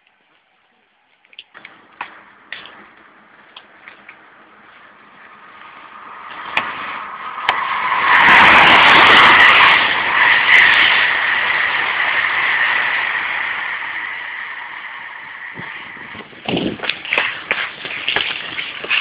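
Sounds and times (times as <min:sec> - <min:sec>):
high whine: 0:00.0 - 0:19.0
train passing at speed: 0:01.6 - 0:19.0.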